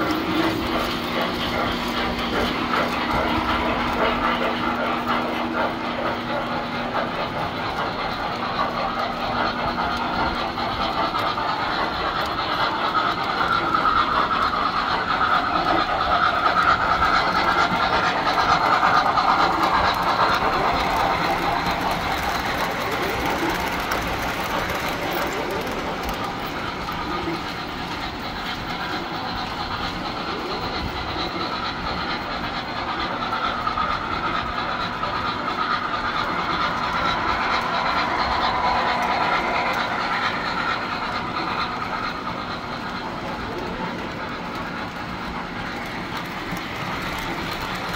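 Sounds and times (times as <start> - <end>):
model trains running on rails: 0.0 - 47.9.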